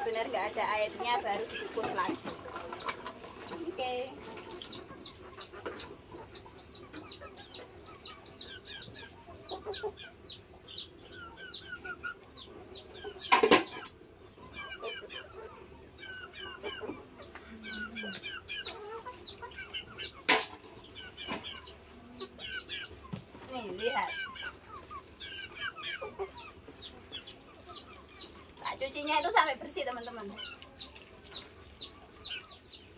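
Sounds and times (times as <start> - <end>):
chickens chirping: 0.0 - 32.9.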